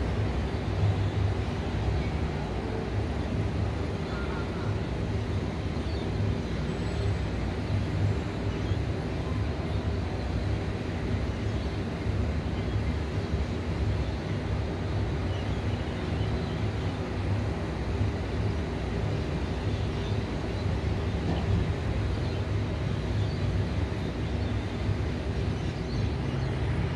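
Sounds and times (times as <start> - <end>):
city rumble: 0.0 - 26.9
faint droning hum: 0.0 - 26.9.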